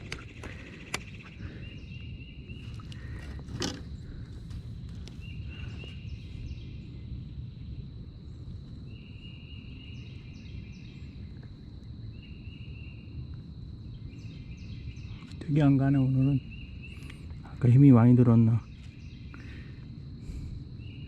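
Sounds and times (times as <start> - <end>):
low wind rumble on microphone: 0.0 - 21.0.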